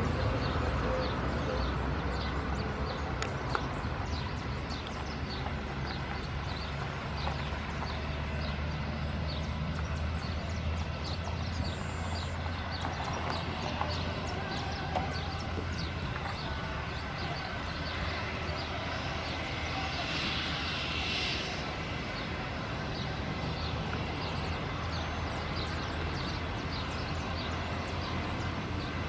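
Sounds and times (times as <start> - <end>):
birds chirping: 0.0 - 29.0
jet engines rumbling: 0.0 - 29.0.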